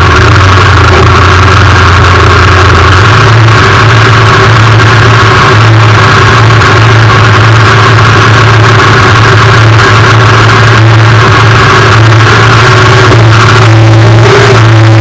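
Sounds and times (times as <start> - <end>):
car engine idling loudly: 0.0 - 15.0
deep hum: 0.0 - 15.0.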